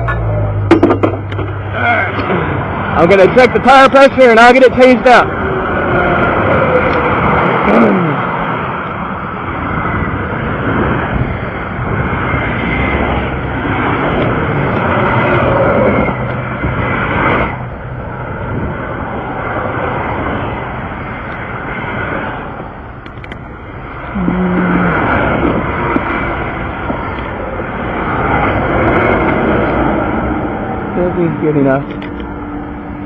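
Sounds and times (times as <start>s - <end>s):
road traffic roaring by: 0.0s - 33.0s.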